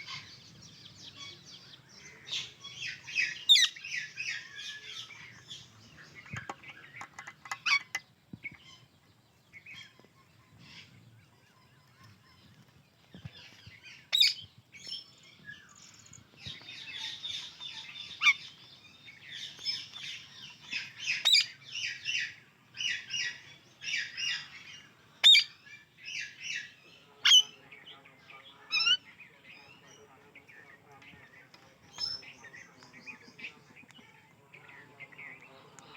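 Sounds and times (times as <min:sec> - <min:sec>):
parakeets chirping and chattering: 0:00.0 - 0:35.9.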